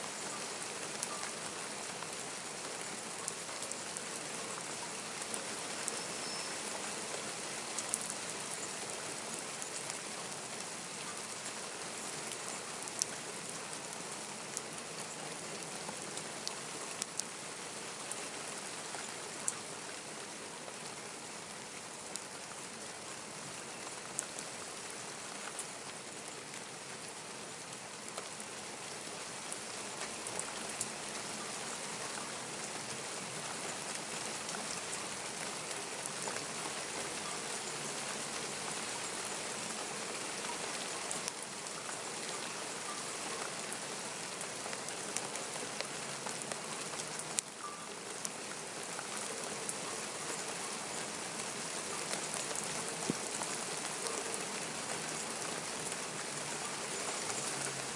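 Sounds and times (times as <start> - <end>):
raindrops ticking close by: 0.0 - 57.9
steady rain hiss: 0.0 - 57.9.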